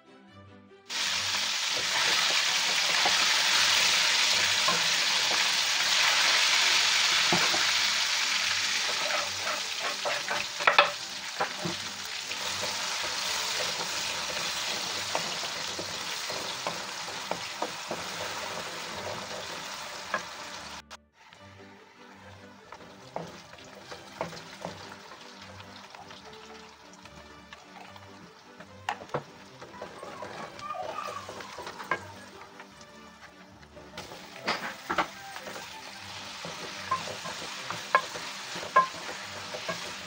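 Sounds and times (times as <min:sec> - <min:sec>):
onions hitting hot oil: 0:00.9 - 0:20.8, 0:22.6 - 0:33.0, 0:33.8 - 0:40.0
wooden spoon scraping a wok: 0:00.9 - 0:20.8, 0:22.6 - 0:40.0
oil sizzling in a wok: 0:00.9 - 0:40.0.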